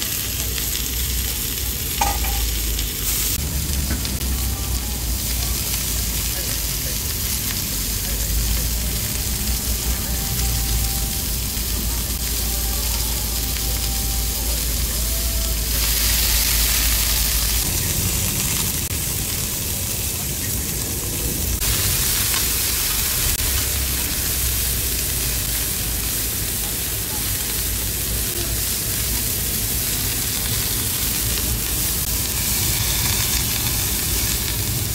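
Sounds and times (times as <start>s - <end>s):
meat sizzling on grill: 0.0s - 34.9s.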